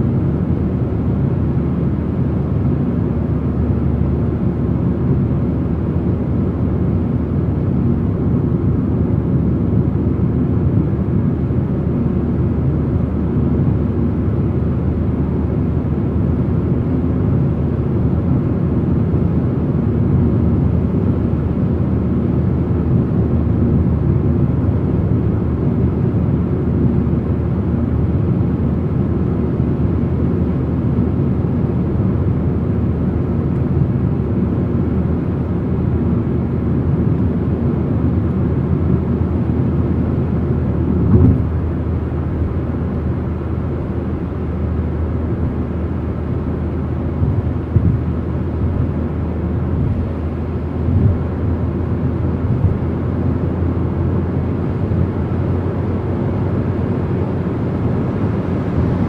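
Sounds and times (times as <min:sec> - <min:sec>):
car driving at speed: 0:00.0 - 0:59.0.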